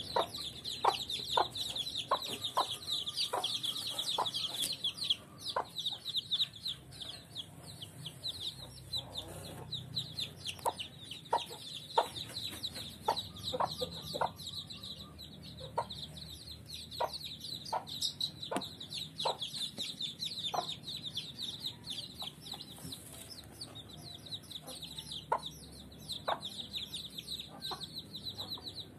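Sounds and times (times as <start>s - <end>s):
chicks peeping: 0.0s - 28.9s
hen clucking: 0.0s - 28.9s.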